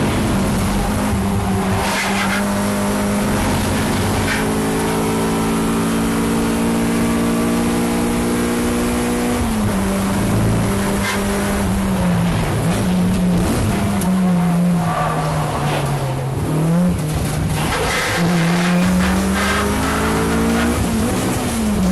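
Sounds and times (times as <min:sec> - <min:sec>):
car engine at high revs: 0:00.0 - 0:21.9.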